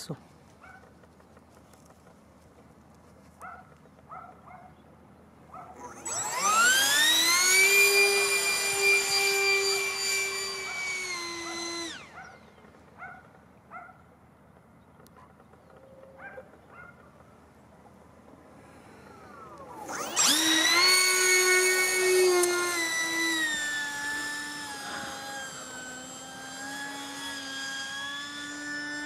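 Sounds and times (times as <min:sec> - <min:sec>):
model jet ducted fan whining: 0:00.0 - 0:29.0.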